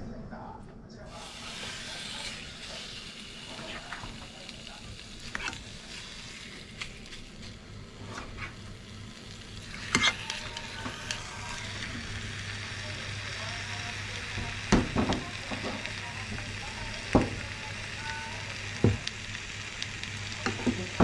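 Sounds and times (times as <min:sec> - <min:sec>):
chicken sizzling in a pan: 0:01.1 - 0:21.0.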